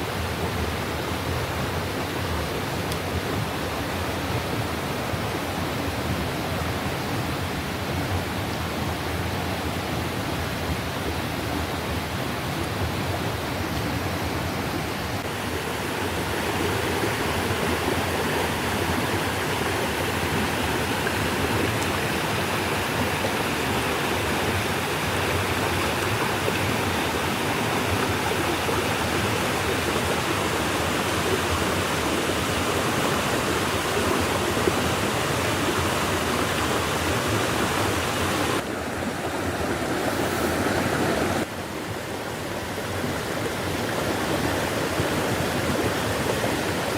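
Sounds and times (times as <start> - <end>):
running water: 0.0 - 46.9.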